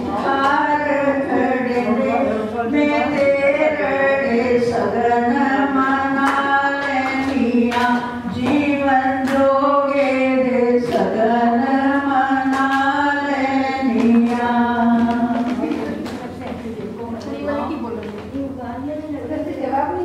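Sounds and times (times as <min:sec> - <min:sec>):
women singing together: 0:00.0 - 0:17.2.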